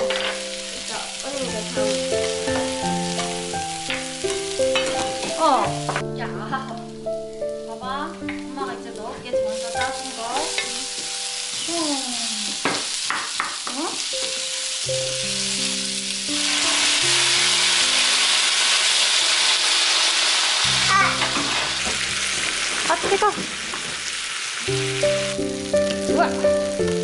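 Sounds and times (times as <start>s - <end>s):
onion and tomatoes sizzling in pan: 0.0s - 27.0s.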